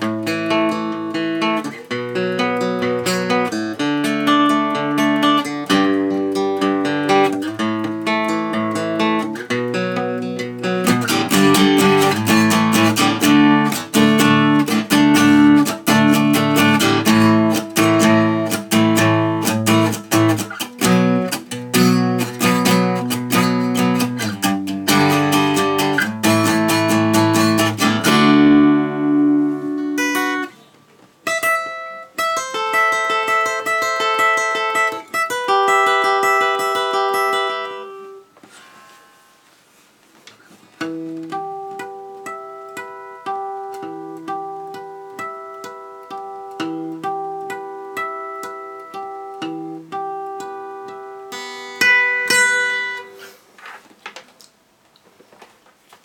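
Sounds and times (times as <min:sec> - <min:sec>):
acoustic guitar picking and strumming: 0:00.0 - 0:39.5, 0:40.2 - 0:53.8.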